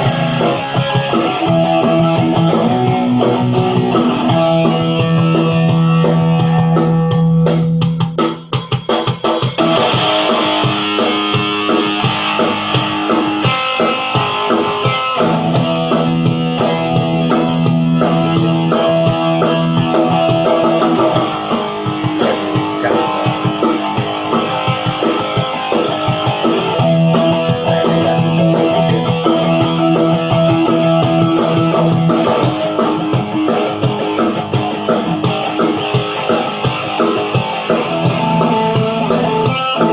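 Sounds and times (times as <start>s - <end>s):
electric guitar rock tone: 0.0s - 39.9s.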